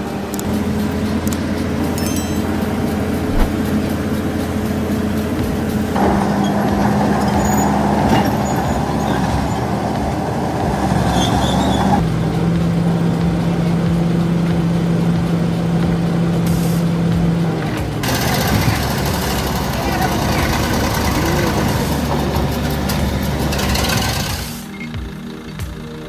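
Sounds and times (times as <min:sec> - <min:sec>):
heavy vehicle engines running: 0:03.9 - 0:26.0.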